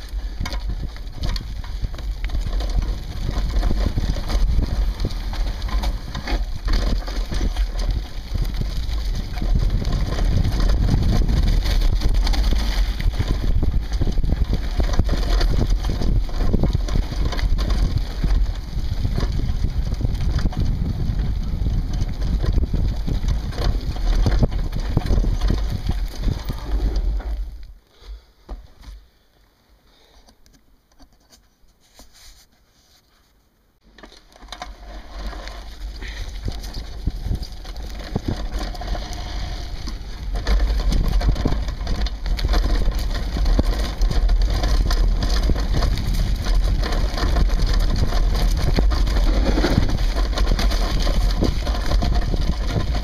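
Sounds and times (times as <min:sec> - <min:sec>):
wind buffeting microphone: 0:00.0 - 0:27.6, 0:35.7 - 0:53.0
bike rattling and knocking: 0:00.0 - 0:27.7, 0:33.8 - 0:53.0
tyres crunching over dirt: 0:00.0 - 0:29.0, 0:33.8 - 0:53.0.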